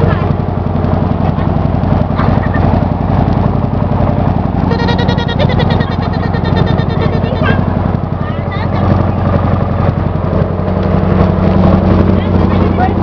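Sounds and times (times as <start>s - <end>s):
boat engine pulsing rumble: 0.0s - 13.0s.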